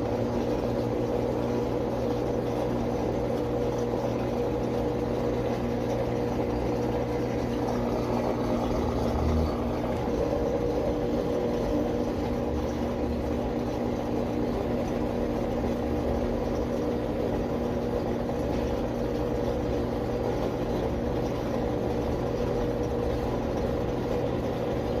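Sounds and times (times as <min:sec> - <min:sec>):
washing machine motor hum: 0:00.0 - 0:25.0.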